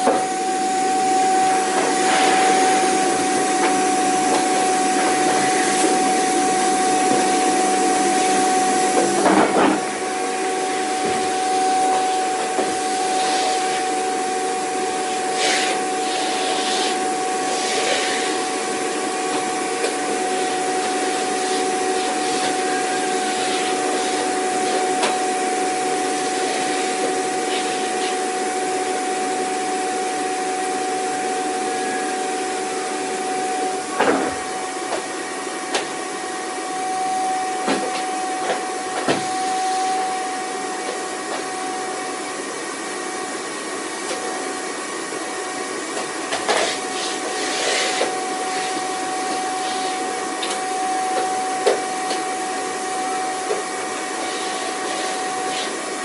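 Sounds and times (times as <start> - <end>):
vacuum cleaner motor: 0.0 - 56.0.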